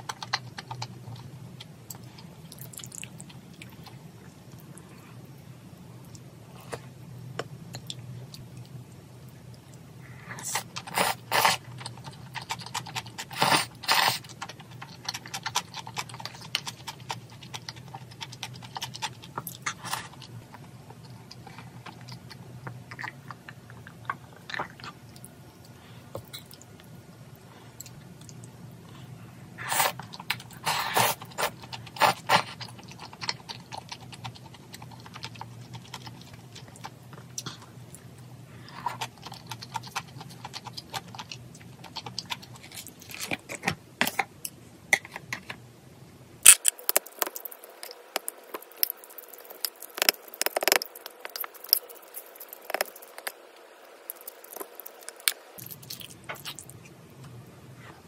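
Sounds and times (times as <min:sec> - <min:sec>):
chewing: 0:00.0 - 0:01.3, 0:01.9 - 0:05.0, 0:10.4 - 0:28.5, 0:29.6 - 0:43.7, 0:46.4 - 0:57.0
steady low hum: 0:00.0 - 0:58.0.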